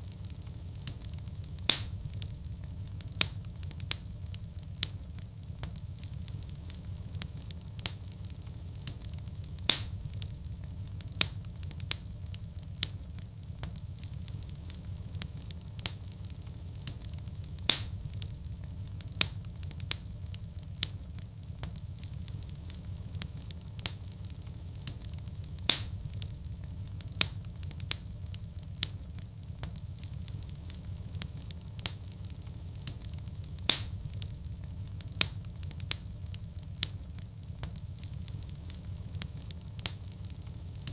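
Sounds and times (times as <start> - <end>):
fire popping: 0.0 - 40.9
wood fire crackling: 0.0 - 40.9.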